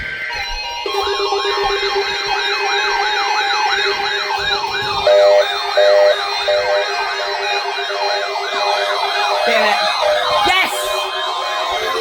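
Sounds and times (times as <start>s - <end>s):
electronic siren yelp: 0.1s - 12.0s.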